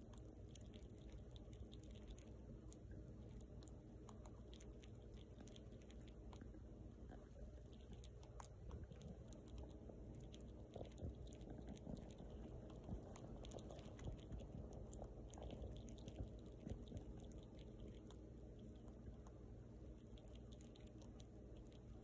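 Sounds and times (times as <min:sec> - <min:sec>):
squirrel gnawing nut: 0:00.0 - 0:22.0.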